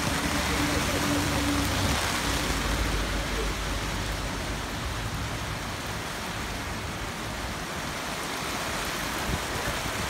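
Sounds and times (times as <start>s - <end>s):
rain on wet paving: 0.0s - 10.0s.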